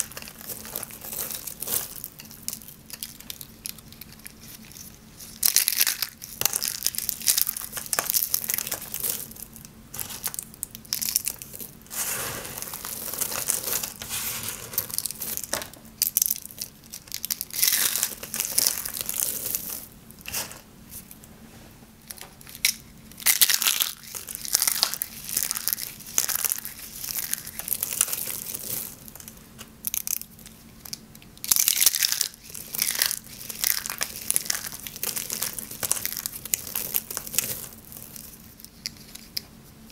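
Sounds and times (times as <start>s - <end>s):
soap shavings crunching in hands: 0.0s - 19.9s, 22.4s - 30.3s, 30.9s - 39.4s.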